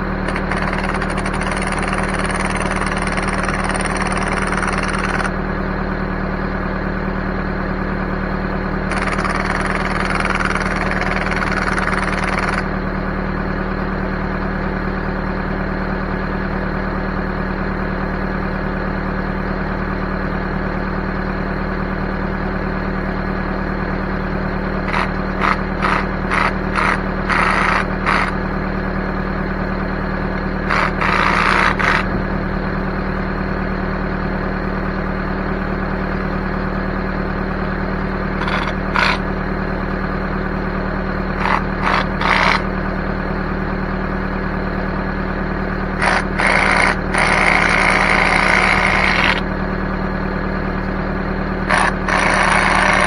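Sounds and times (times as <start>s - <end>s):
backhoe engine running: 0.0s - 53.0s.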